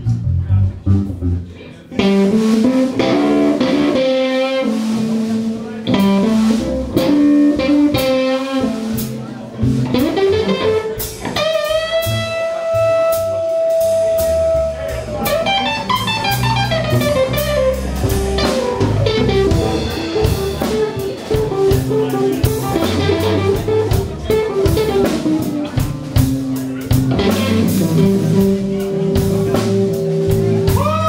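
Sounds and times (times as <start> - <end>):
live blues band playing: 0.0 - 31.0.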